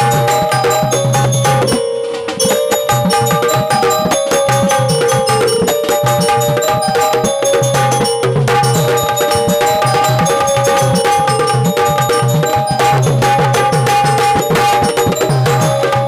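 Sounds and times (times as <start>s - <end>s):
fast barrel drum drumming: 0.0s - 1.8s, 2.4s - 16.0s
electronic keyboard melody: 0.0s - 16.0s.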